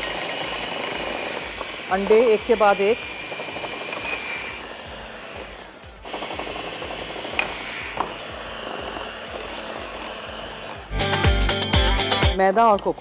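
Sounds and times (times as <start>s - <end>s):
electric hand mixer whisking: 0.0s - 12.9s.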